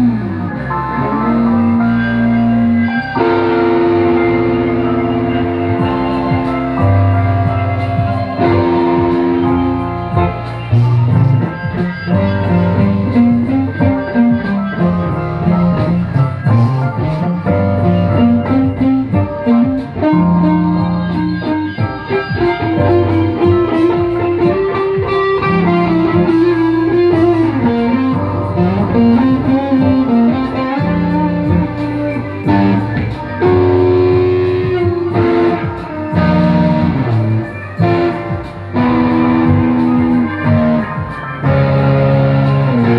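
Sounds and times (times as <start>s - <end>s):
moving bass line: 0.0s - 42.9s
plucked guitar music: 0.0s - 42.9s.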